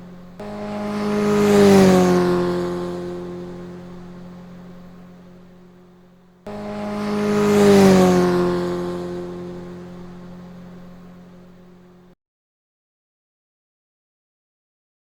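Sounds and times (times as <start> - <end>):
race motorcycle passing at speed: 0.0 - 12.2.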